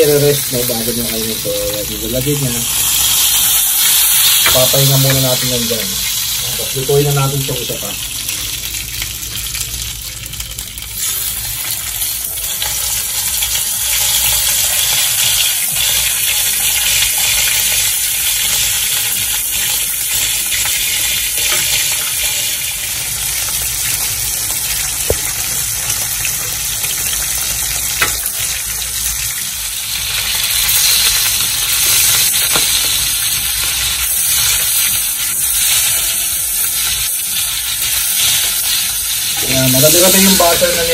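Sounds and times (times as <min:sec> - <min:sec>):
steak sizzling in frying pan: 0:00.0 - 0:40.9.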